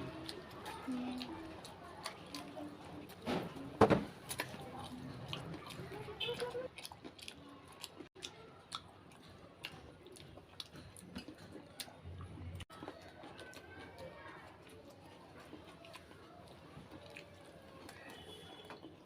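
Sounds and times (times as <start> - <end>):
person chewing crisp food: 0.0 - 19.0.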